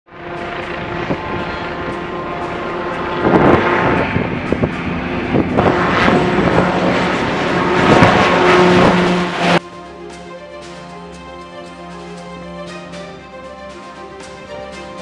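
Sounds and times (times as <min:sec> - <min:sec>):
drone propeller engine running: 0:00.1 - 0:15.0.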